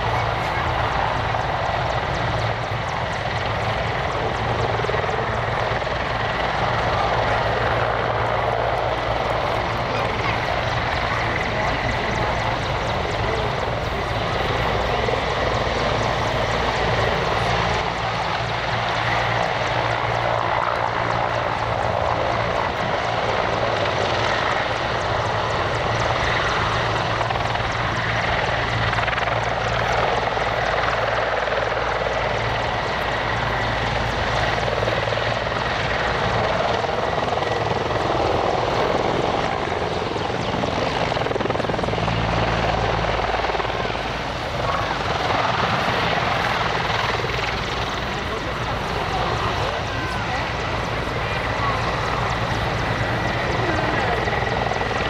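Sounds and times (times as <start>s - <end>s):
helicopter rotor beating: 0.0s - 55.0s
turbine engine noise: 0.0s - 55.0s.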